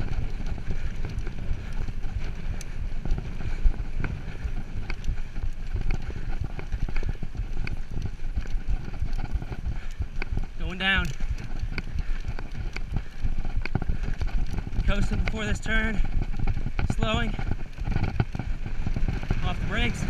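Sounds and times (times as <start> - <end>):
bike frame clicking and knocking: 0.0 - 19.5
chain and suspension rattling: 0.0 - 20.0
wind rumble on microphone: 0.0 - 20.0.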